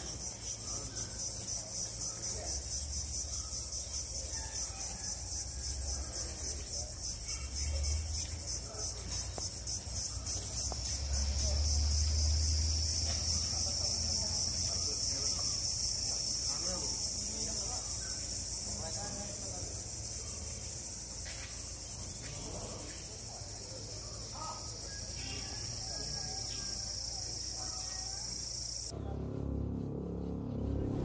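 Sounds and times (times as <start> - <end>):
pulsing insect chorus: 0.0 - 31.0.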